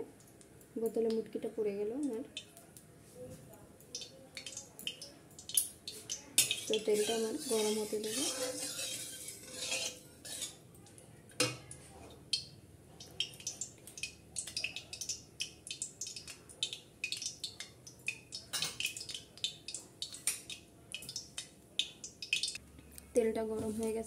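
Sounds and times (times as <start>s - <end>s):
hot oil crackling: 0.0s - 22.6s.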